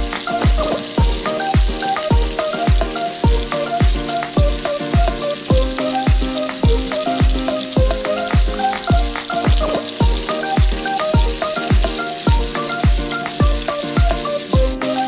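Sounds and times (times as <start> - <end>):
food sizzling in a wok: 0.0 - 15.0
music with kick-drum beat: 0.0 - 15.0.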